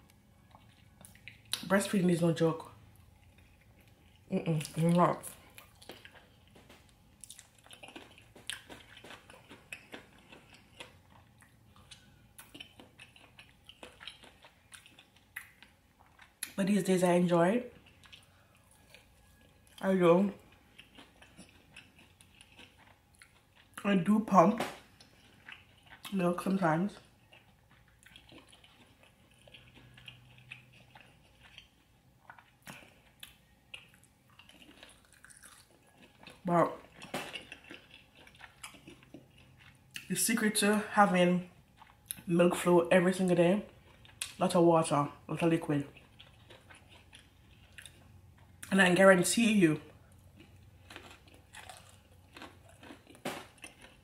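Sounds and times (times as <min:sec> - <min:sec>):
wet chewing and mouth smacks: 0:00.0 - 0:01.7, 0:02.9 - 0:16.6, 0:17.7 - 0:19.8, 0:20.4 - 0:23.9, 0:24.8 - 0:26.2, 0:27.0 - 0:40.1, 0:41.7 - 0:42.3, 0:43.7 - 0:44.4, 0:45.8 - 0:48.7, 0:50.0 - 0:54.0.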